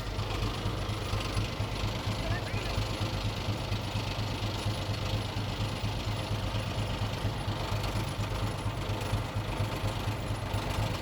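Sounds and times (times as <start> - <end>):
bulldozer diesel engine throbbing: 0.0 - 11.0.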